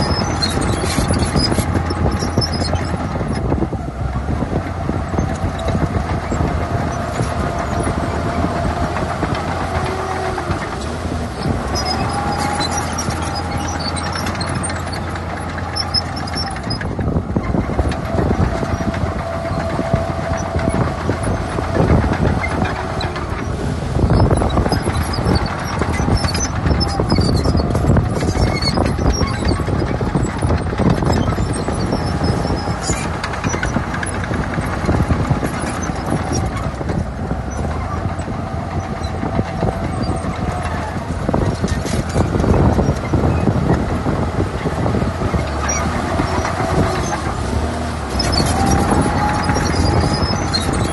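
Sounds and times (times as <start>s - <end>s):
bulldozer diesel engine: 0.0s - 50.9s
steel tracks clanking: 4.7s - 50.9s.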